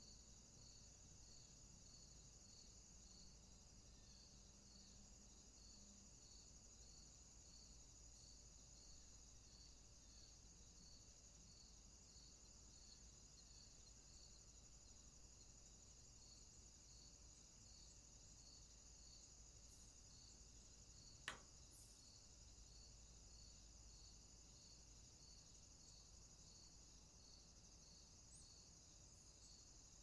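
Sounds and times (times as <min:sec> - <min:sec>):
insects trilling: 0:00.0 - 0:30.0
lower insect chirp: 0:00.0 - 0:30.0.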